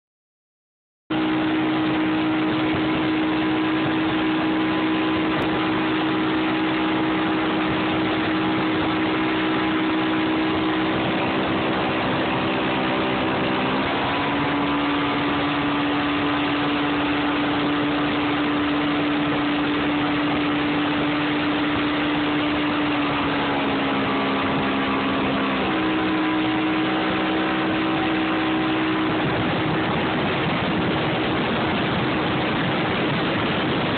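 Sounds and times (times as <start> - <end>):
outboard motor running: 1.1 - 33.9
rush of wind and water: 1.1 - 33.9.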